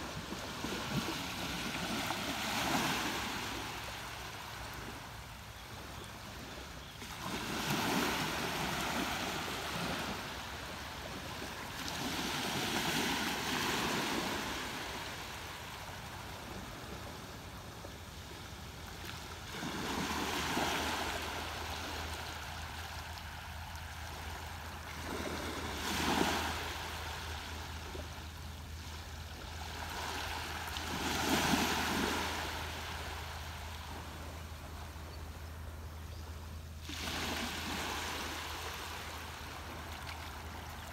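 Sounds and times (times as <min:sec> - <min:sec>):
ocean waves breaking on shore: 0:00.0 - 0:35.9, 0:36.6 - 0:40.9.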